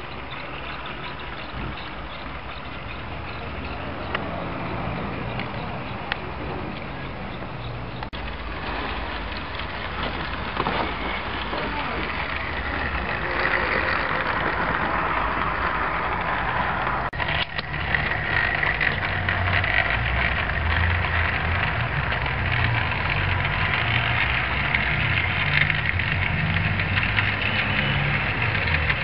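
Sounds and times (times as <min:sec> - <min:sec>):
model train clattering on track: 0:00.0 - 0:29.0.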